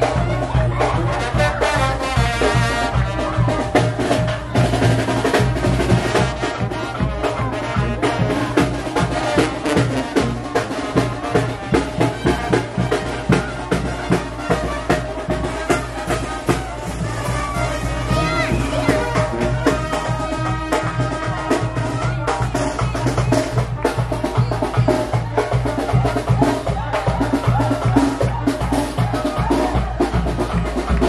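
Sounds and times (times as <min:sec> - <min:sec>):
marching brass band playing: 0:00.0 - 0:31.0.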